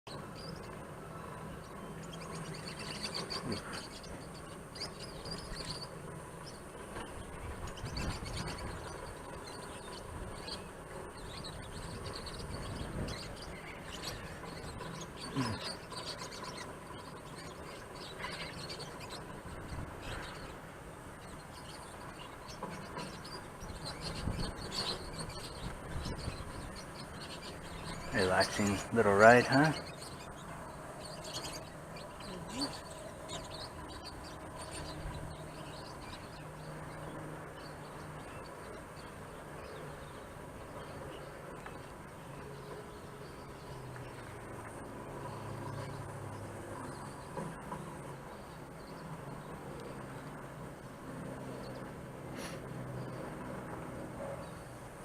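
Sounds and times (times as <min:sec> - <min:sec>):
birds chirping: 0:00.1 - 0:55.0.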